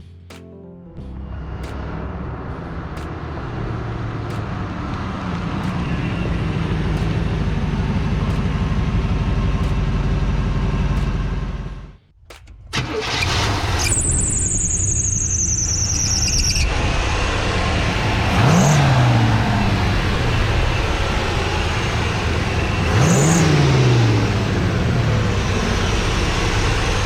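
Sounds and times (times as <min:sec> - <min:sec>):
engine running: 0:01.0 - 0:13.8, 0:16.6 - 0:27.0.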